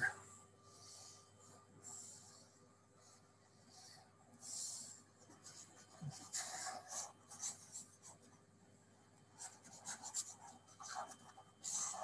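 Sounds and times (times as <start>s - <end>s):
stylus scratching on drawing tablet: 0.0s - 8.5s, 9.2s - 12.0s.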